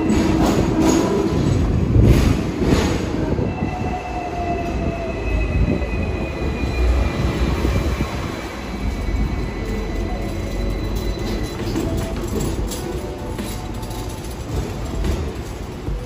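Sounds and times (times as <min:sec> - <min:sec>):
tram rumbling: 0:00.0 - 0:16.0.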